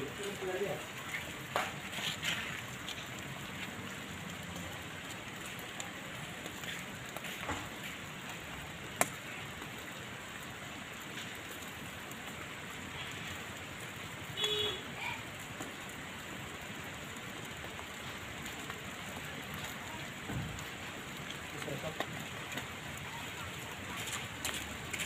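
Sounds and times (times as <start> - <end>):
fish sizzling on a grill: 0.0 - 25.0.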